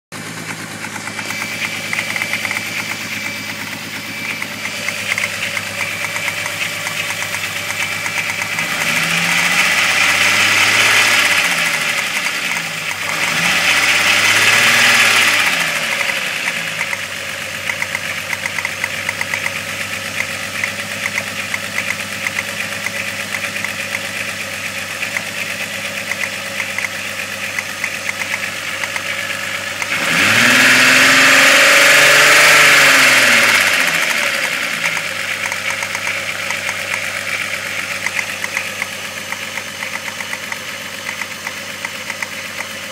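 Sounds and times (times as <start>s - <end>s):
car engine idling and revving: 0.1s - 42.9s.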